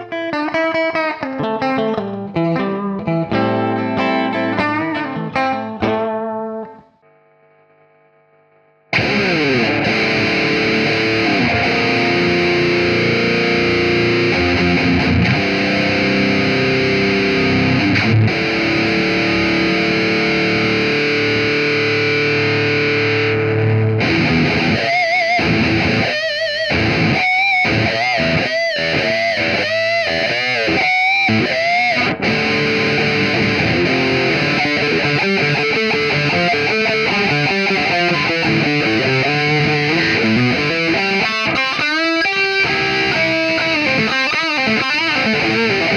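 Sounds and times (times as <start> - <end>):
distorted electric guitar: 0.0 - 45.9.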